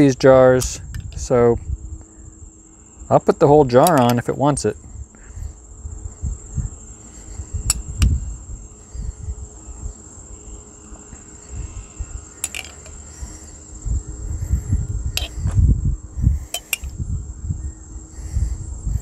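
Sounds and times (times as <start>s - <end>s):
crickets chirring: 0.0s - 19.0s
wind rumble on microphone: 0.0s - 19.0s.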